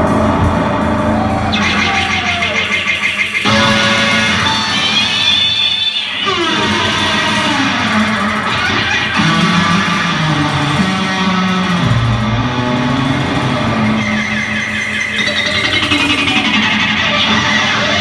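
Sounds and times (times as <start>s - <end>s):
high notes sliding down: 0.0s - 18.0s
live rock band: 0.0s - 18.0s.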